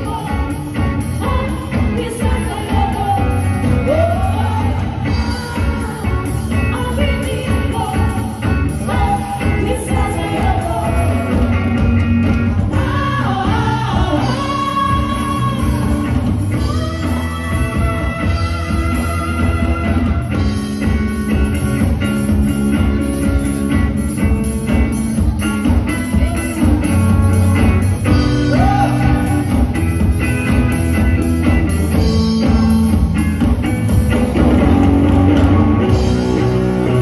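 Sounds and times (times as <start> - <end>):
live rock band with singer: 0.0 - 37.0.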